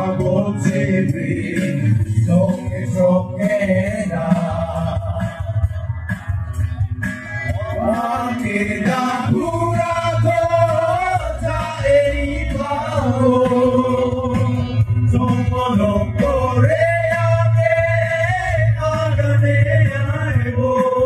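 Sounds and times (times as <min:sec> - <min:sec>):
man singing long held notes: 0:00.0 - 0:05.6, 0:07.4 - 0:21.0
strong bass music: 0:00.0 - 0:21.0.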